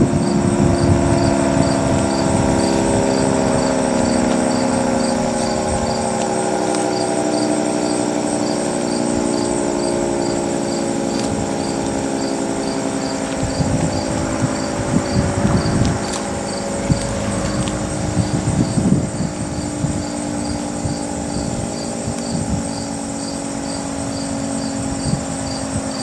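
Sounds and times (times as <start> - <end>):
low rumbling wind gusts: 0.0 - 26.0
warning siren steady chord: 0.0 - 26.0.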